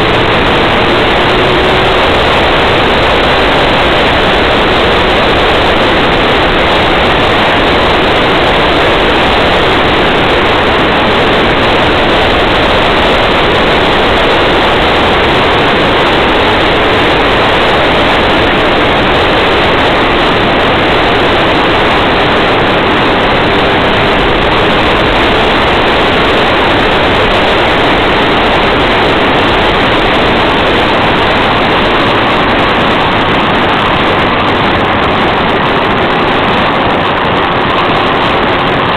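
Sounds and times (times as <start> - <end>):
car tyre and wind noise: 0.0 - 38.9.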